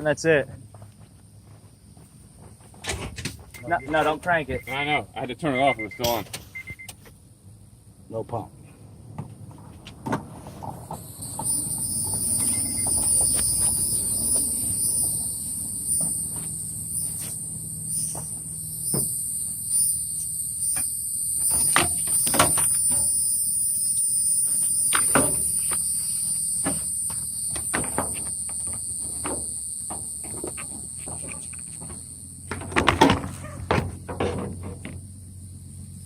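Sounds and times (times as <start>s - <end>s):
high-pitched insect chorus: 0.0s - 9.0s, 10.4s - 36.0s.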